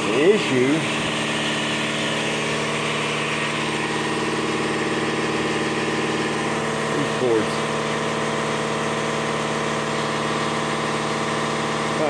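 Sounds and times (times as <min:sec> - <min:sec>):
machine droning hum: 0:00.0 - 0:12.0.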